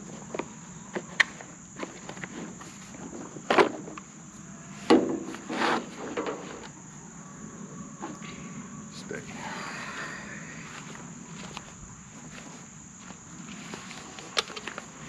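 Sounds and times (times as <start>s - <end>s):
high insect buzz: 0.0s - 15.0s.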